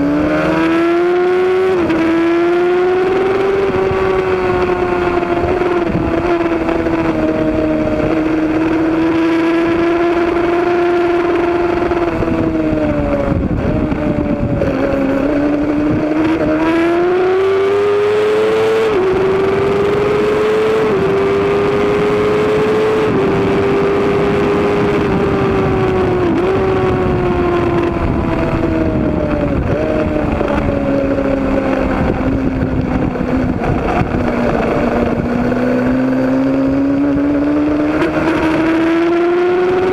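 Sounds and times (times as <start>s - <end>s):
racing motorcycle engine revving: 0.0s - 39.9s
wind rush: 0.0s - 39.9s.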